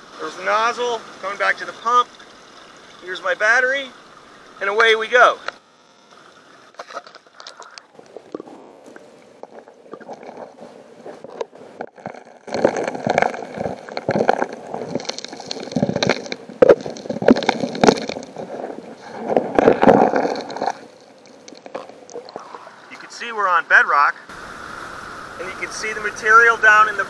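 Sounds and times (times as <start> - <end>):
underwater suction gurgling rush: 0.0 - 23.2, 24.3 - 27.0.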